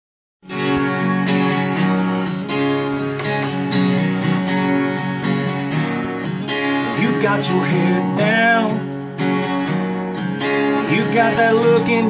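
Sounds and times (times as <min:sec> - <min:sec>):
acoustic guitar strumming: 0:00.4 - 0:12.0.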